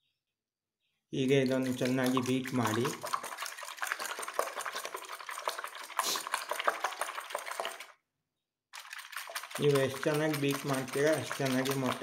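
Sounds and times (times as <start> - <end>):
whisk clicking against glass bowl: 1.3 - 7.9, 8.8 - 12.0.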